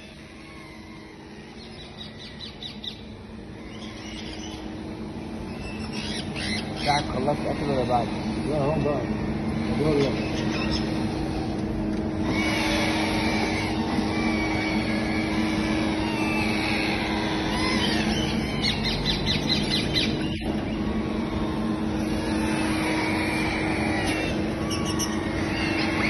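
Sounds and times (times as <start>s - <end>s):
steady mechanical hum: 0.0s - 26.0s
parrots chirping and chattering: 0.1s - 26.0s.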